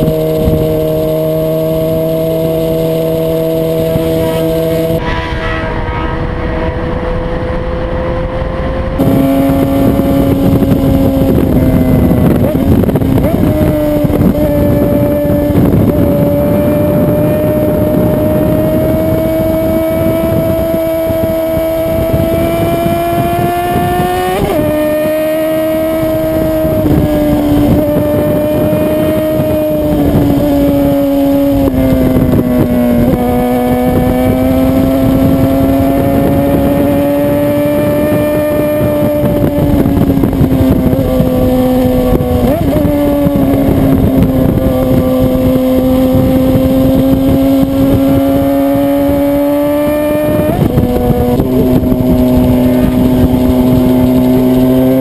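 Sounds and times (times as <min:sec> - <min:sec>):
motorcycle engine running: 0:00.0 - 0:55.0
wind rush over microphone: 0:00.0 - 0:55.0.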